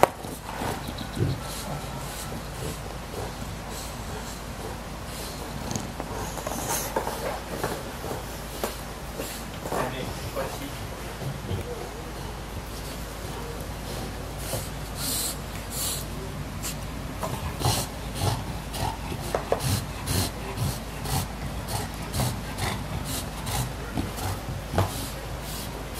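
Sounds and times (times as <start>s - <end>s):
dog chewing a plush toy: 0.0s - 25.9s.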